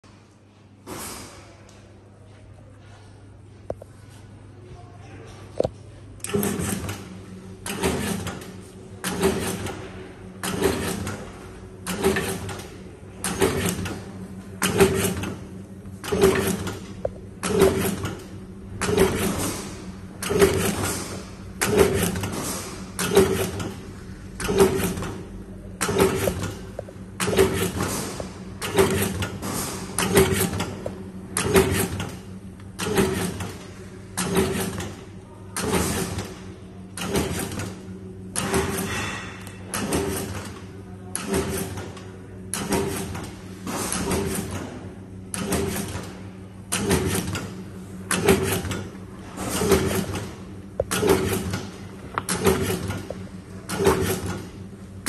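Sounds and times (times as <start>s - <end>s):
motor hum: 5.6s - 55.0s.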